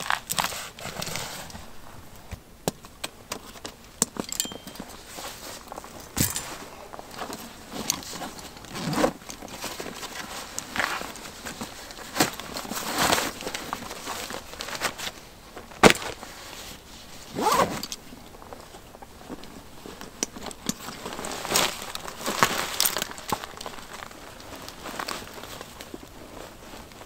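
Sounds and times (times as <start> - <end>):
rustling and crunching: 0.0 - 27.0.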